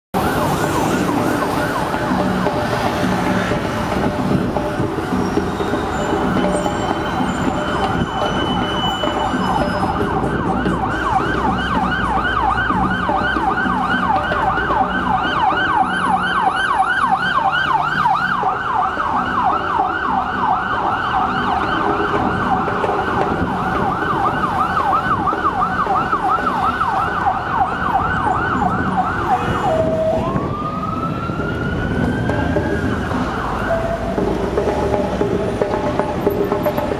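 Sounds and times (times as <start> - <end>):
traffic engines rumbling: 0.1 - 36.9
police siren yelping: 0.2 - 36.9.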